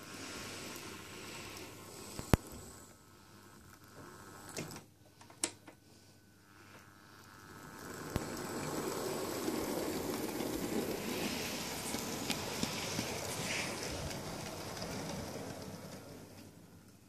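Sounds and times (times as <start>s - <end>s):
model train motor whirring: 0.0s - 5.5s, 6.3s - 16.6s.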